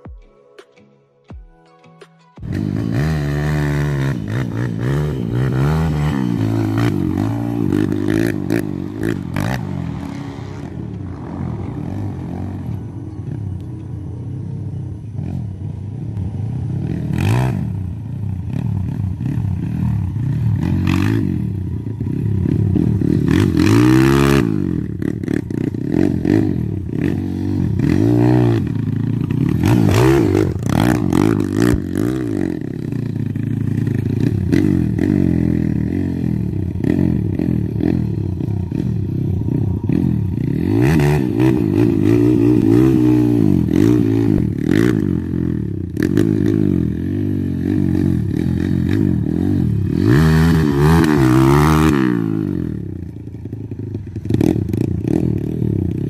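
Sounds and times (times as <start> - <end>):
dirt bike engine revving: 2.4 - 12.9, 16.3 - 53.0.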